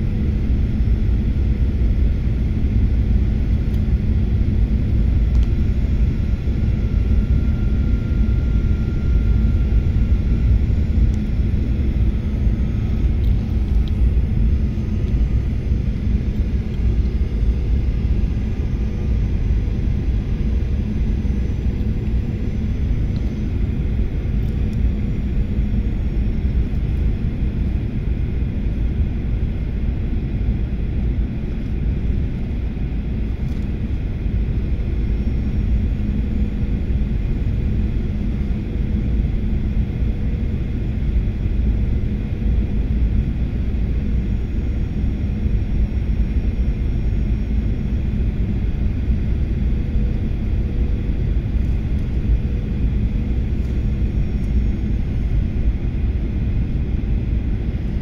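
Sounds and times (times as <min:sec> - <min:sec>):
airliner cabin engine noise: 0:00.0 - 0:58.0
faint steady hum: 0:00.0 - 0:58.0.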